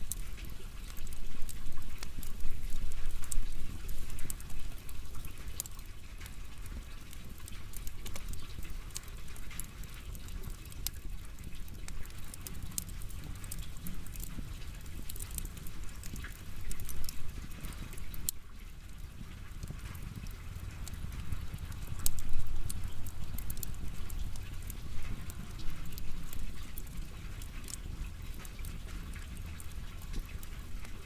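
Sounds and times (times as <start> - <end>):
firewood crackling and popping: 0.0 - 31.0
low fire rumble: 0.0 - 31.0.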